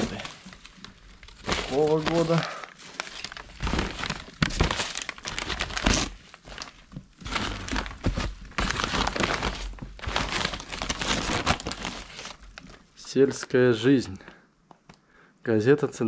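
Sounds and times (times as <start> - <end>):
newspaper crinkling and rustling: 0.0 - 13.0.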